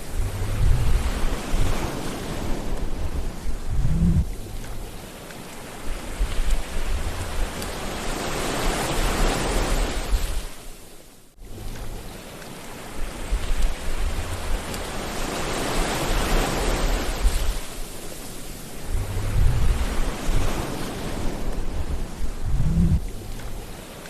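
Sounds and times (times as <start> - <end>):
sea waves breaking: 0.0 - 24.0.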